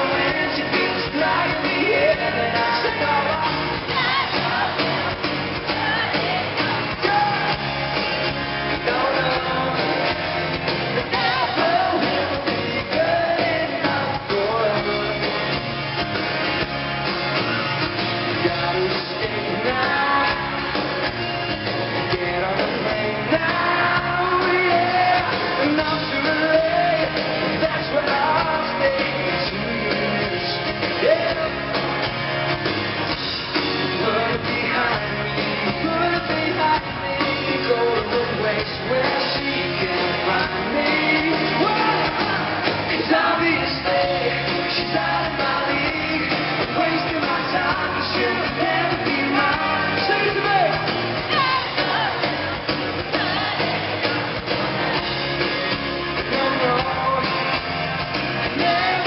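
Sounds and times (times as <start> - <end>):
person singing: 0.0 - 15.5, 18.3 - 21.0, 21.9 - 31.8, 33.6 - 59.0
live pop-rock band: 0.0 - 59.0.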